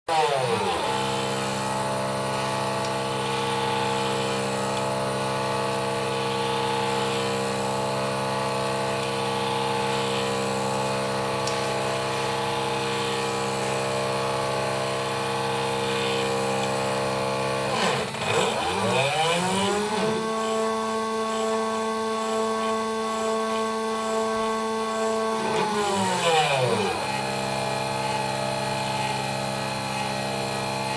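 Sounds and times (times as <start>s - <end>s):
engraving machine whining: 0.1s - 30.9s.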